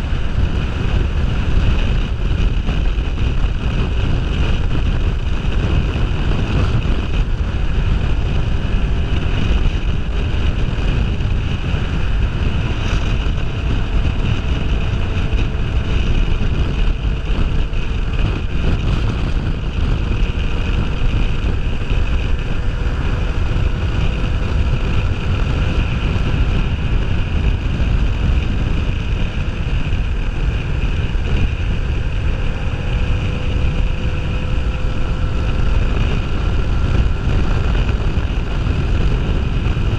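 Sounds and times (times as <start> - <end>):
faint motorcycle engine: 0.0 - 39.9
wind buffeting microphone: 0.0 - 39.9.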